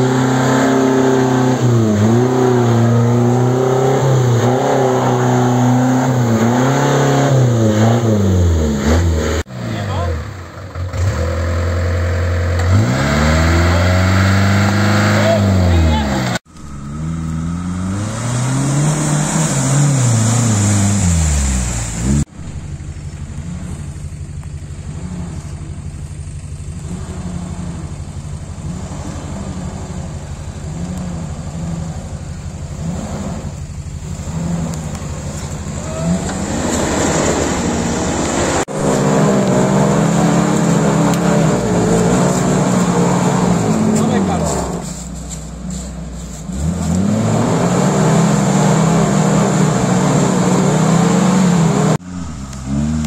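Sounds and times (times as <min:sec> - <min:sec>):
engine droning: 0:00.0 - 0:53.0
engine revving: 0:00.0 - 0:53.0.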